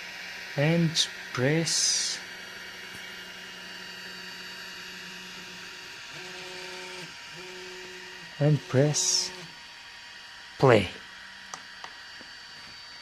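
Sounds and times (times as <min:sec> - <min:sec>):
printer fan hum: 0:00.0 - 0:13.0
stepper motor whine: 0:00.0 - 0:13.0.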